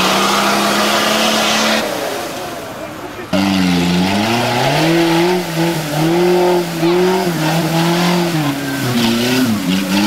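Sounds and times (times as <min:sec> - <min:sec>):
off-road engine revving: 0:00.0 - 0:10.0.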